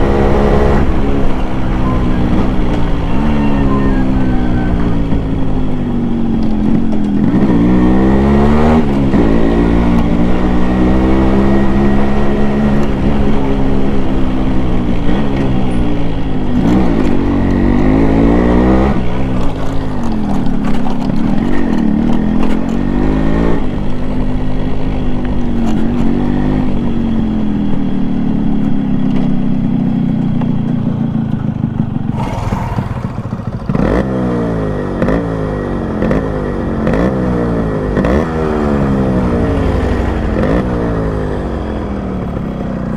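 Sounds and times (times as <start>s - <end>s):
two-stroke motorcycle engine accelerating: 0.0s - 42.9s.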